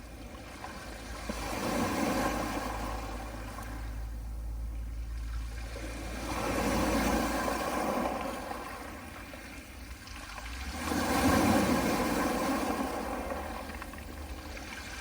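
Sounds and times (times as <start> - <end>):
sea waves washing on pebbles: 0.0 - 3.9, 5.2 - 15.0.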